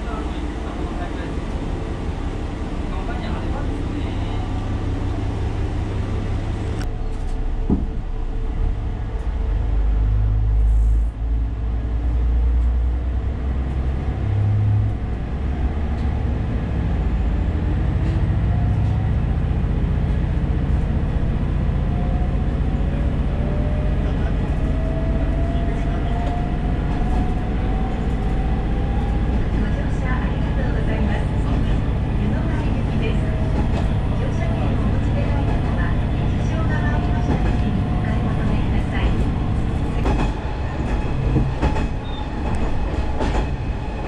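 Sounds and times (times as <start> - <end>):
diesel train engine rumbling: 0.0 - 44.0.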